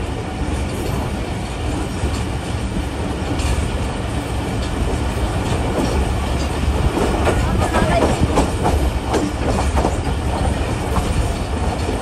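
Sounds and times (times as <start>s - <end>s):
rail joint clicks: 0.0s - 12.0s
train wheels rumbling on rails: 0.0s - 12.0s.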